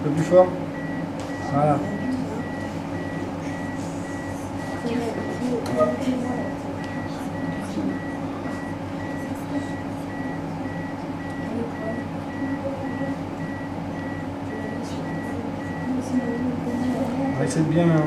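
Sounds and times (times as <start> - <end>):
steady low hum: 0.0 - 18.0
rapid high metronome beeps: 0.7 - 17.6.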